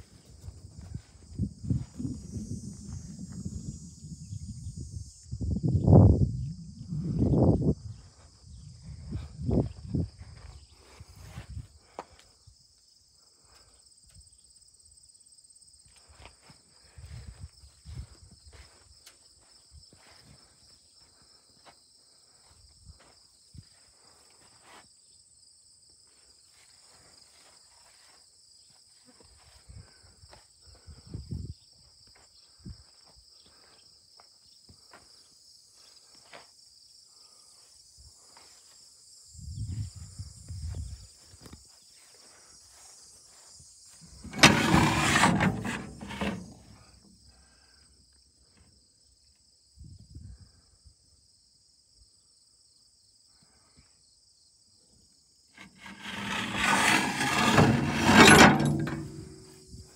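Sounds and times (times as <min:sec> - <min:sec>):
crickets chirring: 0:00.0 - 0:56.6.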